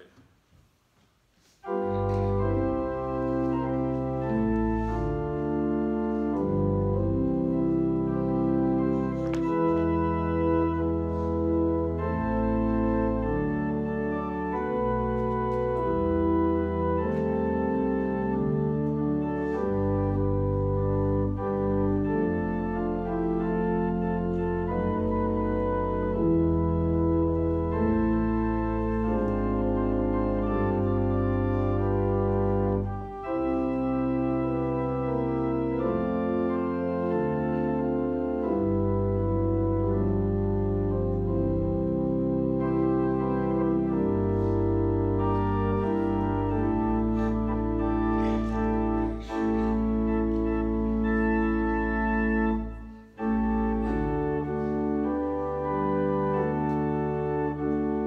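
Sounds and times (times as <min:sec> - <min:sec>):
organ playing a hymn: 0:01.4 - 0:58.0.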